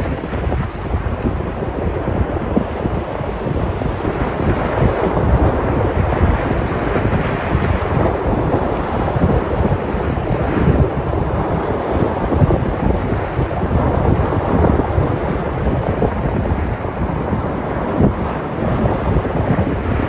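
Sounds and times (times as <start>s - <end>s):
surf breaking on shore: 0.0s - 20.0s.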